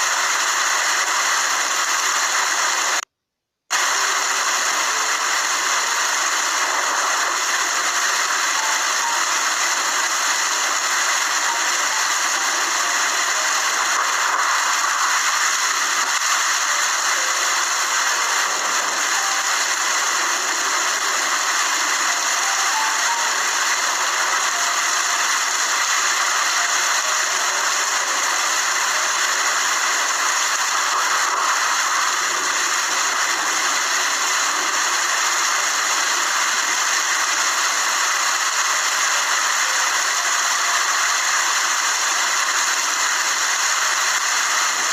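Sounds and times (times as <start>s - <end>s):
steady rain falling: 0.0s - 3.1s, 3.7s - 44.9s.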